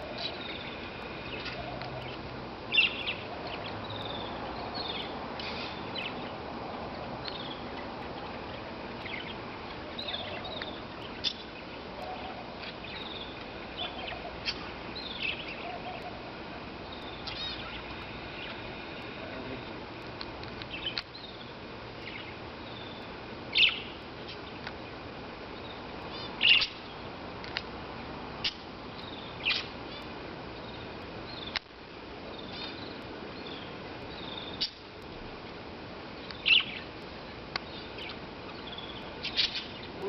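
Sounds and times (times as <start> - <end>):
loud bird calls: 0.0 - 6.5, 7.2 - 19.8, 20.7 - 25.0, 25.6 - 27.1, 28.4 - 31.6, 32.3 - 34.9, 36.2 - 40.0
birds chirping: 0.0 - 27.3, 27.9 - 40.0
background hiss: 0.0 - 40.0.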